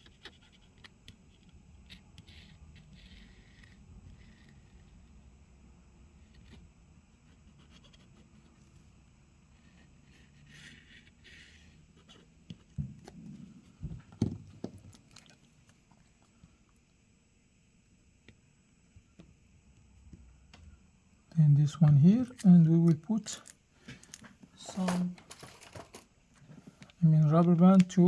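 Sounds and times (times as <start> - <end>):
low steady hum: 0.1 - 28.0.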